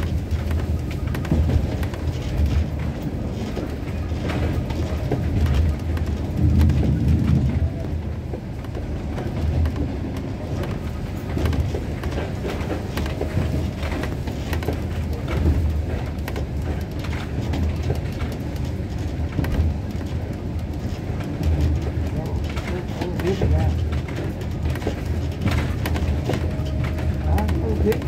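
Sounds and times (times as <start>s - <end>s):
sharp clicks and rattles: 0.0s - 28.0s
train rumbling: 0.0s - 28.0s.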